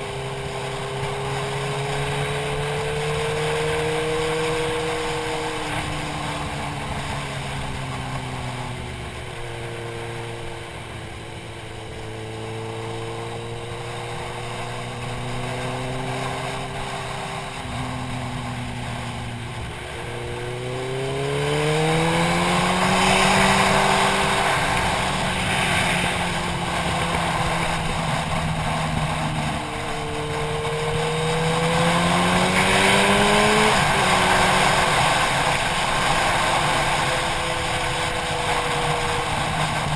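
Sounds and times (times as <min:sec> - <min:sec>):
motorcycle engine accelerating: 0:00.0 - 0:39.9
wind rush on helmet: 0:00.0 - 0:39.9.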